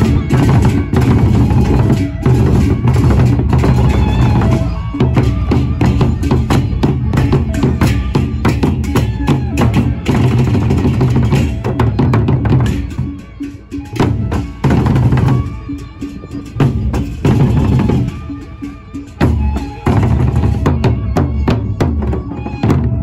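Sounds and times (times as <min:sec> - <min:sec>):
barrel drums beaten with sticks: 0:00.0 - 0:23.0.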